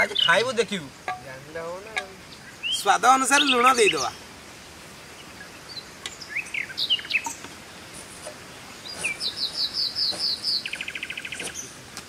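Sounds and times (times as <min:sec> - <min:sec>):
birds chirping and trilling: 0:00.0 - 0:11.8.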